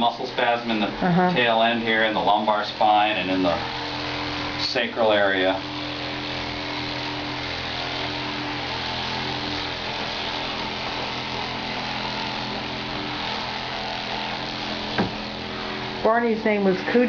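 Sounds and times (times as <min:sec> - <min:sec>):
percussion massager motor buzzing: 0:00.0 - 0:17.0.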